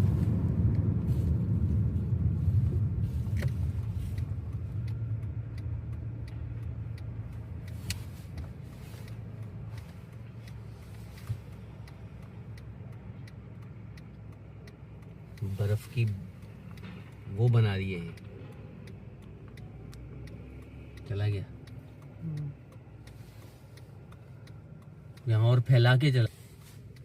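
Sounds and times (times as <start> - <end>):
car road noise rumble: 0.0 - 27.0
faint clicks: 2.6 - 27.0.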